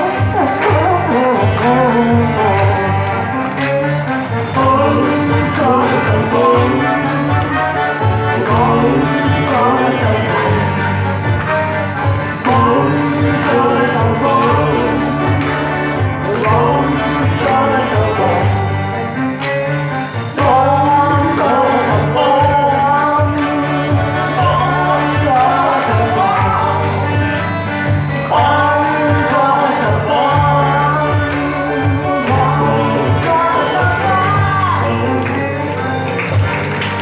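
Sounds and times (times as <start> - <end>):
song with instrumental accompaniment: 0.0 - 37.0.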